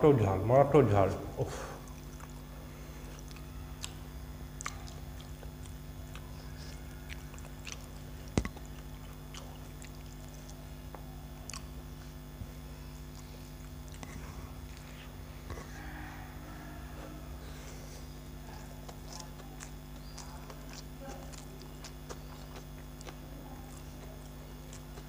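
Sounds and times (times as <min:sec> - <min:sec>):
steady low hum: 0:00.0 - 0:25.0
chewing: 0:01.8 - 0:25.0.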